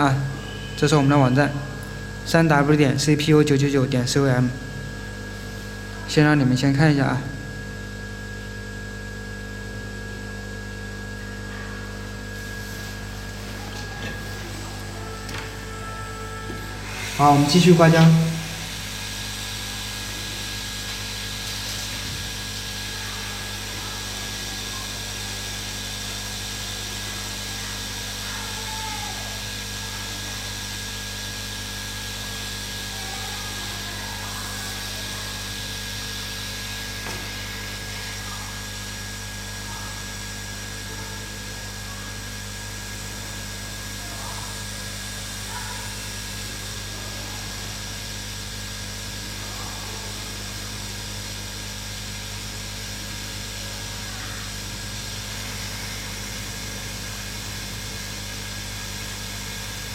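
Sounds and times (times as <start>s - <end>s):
hot-air station blowing: 0.0s - 59.9s.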